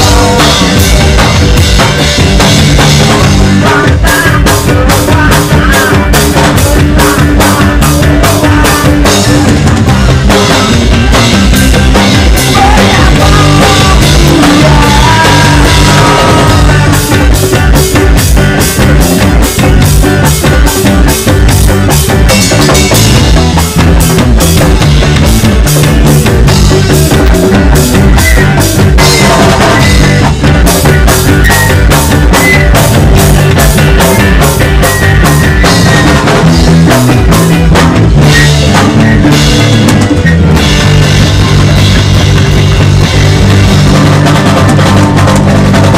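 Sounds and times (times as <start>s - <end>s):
band playing loud music: 0.0s - 45.9s
drum kit beat: 0.0s - 45.9s.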